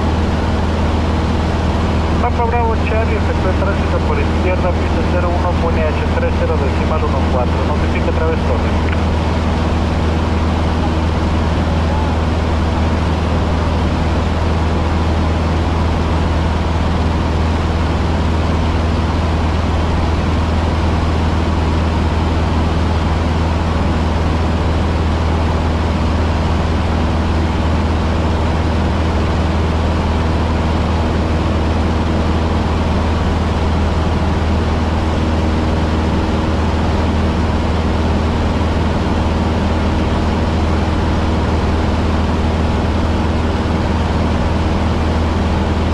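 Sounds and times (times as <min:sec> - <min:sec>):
small plane engine droning in cabin: 0:00.0 - 0:45.9.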